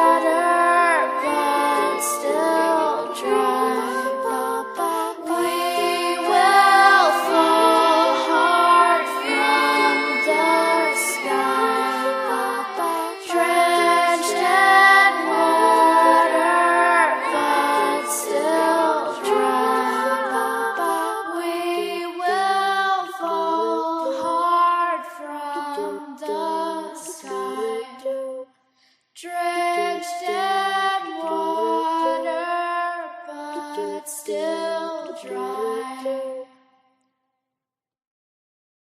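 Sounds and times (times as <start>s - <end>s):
women singing layered harmonies: 0.0s - 28.5s, 29.2s - 36.6s.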